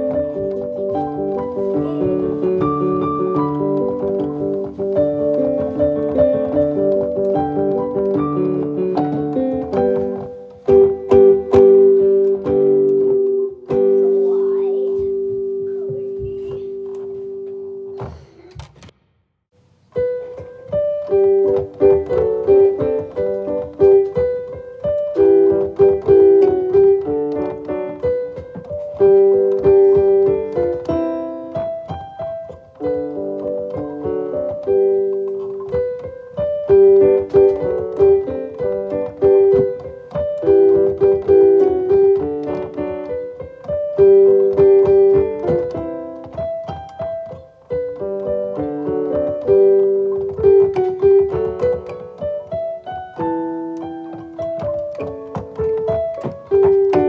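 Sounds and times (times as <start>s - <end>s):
gentle piano music: 0.0s - 18.6s, 19.8s - 57.0s.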